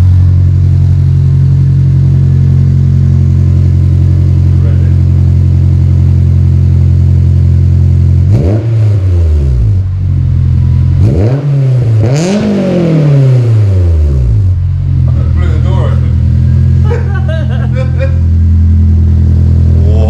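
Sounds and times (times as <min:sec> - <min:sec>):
car engine idling: 0:00.0 - 0:08.4, 0:09.0 - 0:11.2, 0:11.8 - 0:20.0
car engine revving: 0:00.0 - 0:20.0.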